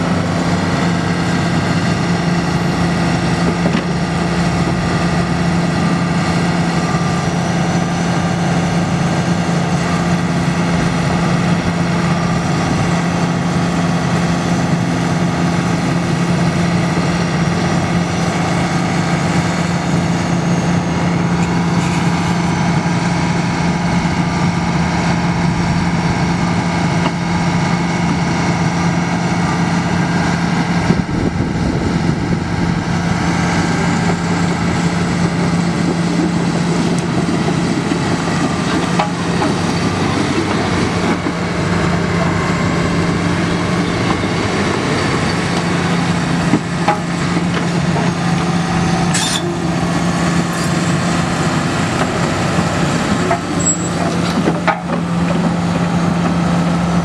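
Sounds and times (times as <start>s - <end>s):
diesel excavator engine running: 0.0s - 57.0s.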